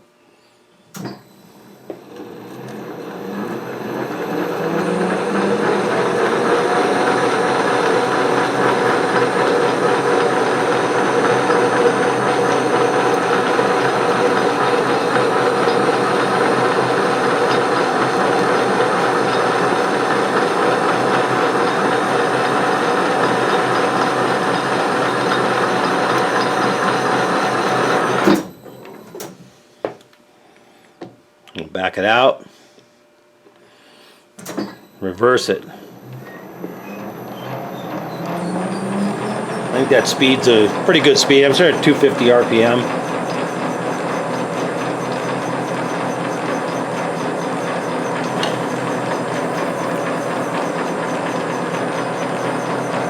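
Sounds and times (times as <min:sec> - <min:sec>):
metal lathe motor whirring: 0:01.9 - 0:28.4, 0:35.8 - 0:53.0.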